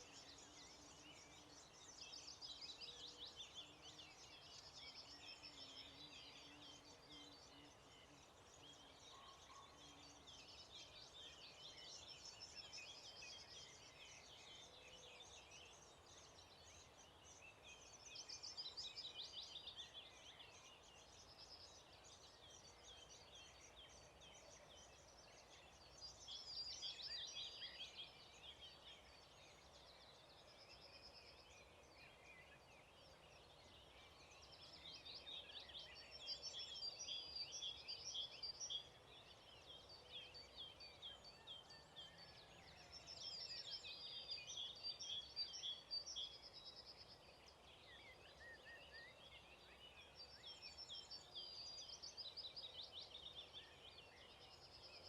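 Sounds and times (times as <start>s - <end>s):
faint outdoor background hush: 0.0s - 55.0s
songbirds chirping and trilling: 0.0s - 55.0s.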